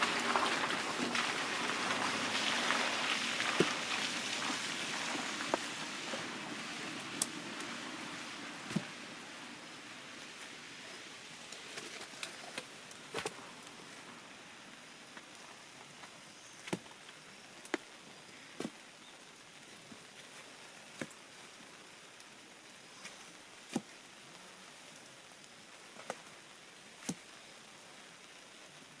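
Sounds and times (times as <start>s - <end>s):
faint hiss of rain: 0.0s - 29.0s
raindrops dripping: 0.0s - 29.0s.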